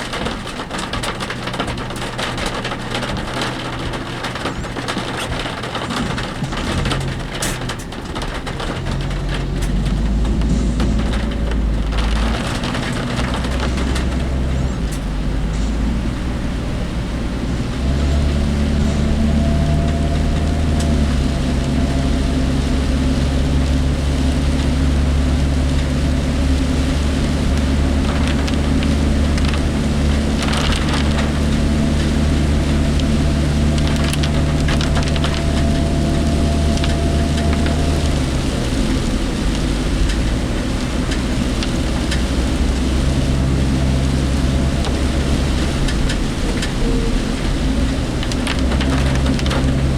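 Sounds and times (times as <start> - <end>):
rain hitting vehicle: 0.0 - 49.9
vehicle body rattling: 0.0 - 49.9
vehicle engine and road noise: 0.0 - 49.9.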